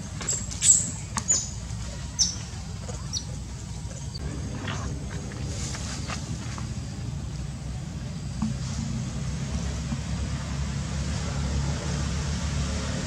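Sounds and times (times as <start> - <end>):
steady low rumble: 0.9 - 11.8.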